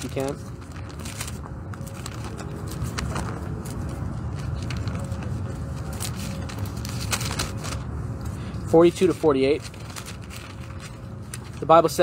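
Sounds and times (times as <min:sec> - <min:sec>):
thin pages rustling: 0:00.0 - 0:07.9, 0:09.5 - 0:12.0
low outdoor rumble: 0:00.0 - 0:12.0.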